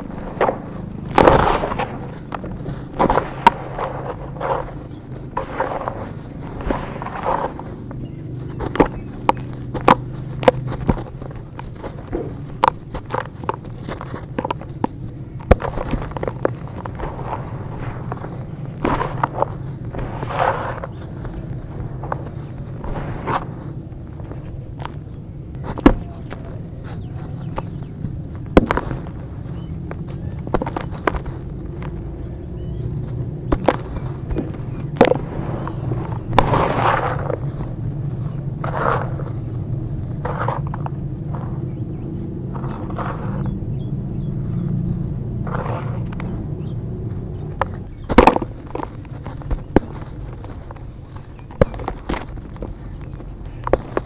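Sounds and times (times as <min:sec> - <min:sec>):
dirt chunks crumbling and cracking: 0:00.0 - 0:54.0
low steady rumble: 0:00.0 - 0:54.0.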